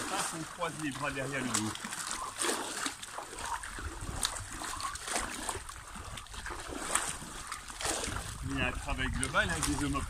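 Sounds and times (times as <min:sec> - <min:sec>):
pool water splashing: 0:00.0 - 0:10.0.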